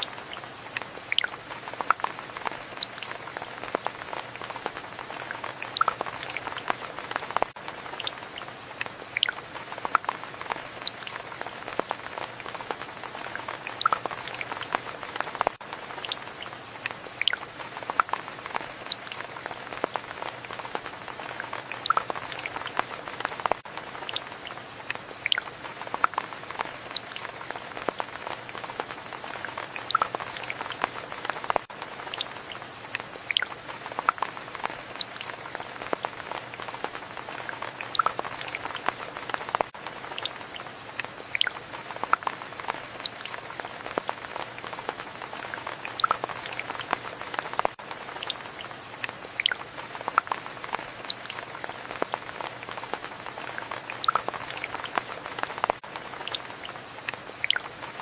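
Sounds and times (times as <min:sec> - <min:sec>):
rain falling: 0:00.0 - 0:58.0
sharp drips close by: 0:00.0 - 0:58.0.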